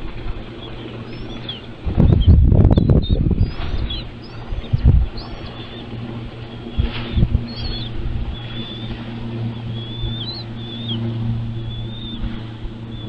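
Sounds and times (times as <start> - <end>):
low mechanical hum: 0.0 - 13.0
high whistled bird calls: 0.6 - 13.0.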